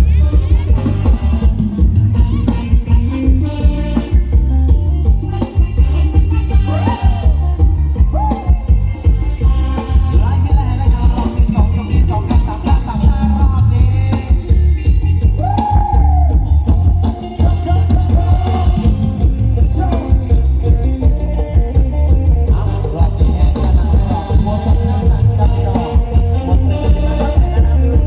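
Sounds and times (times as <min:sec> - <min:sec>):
heavy bass: 0:00.0 - 0:28.0
person singing: 0:00.0 - 0:28.0
steady drum beat: 0:00.0 - 0:28.0.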